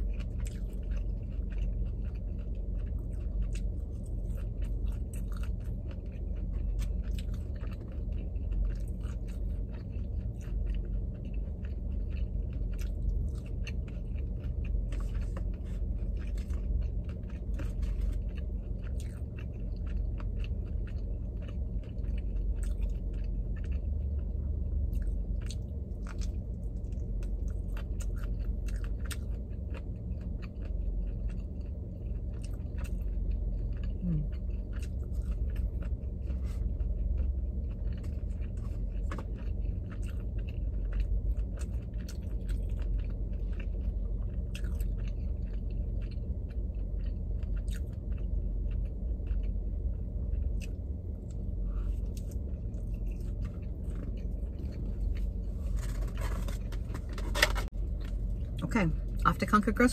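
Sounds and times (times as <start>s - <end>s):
person chewing: 0.0s - 59.3s
low hum: 0.0s - 59.9s.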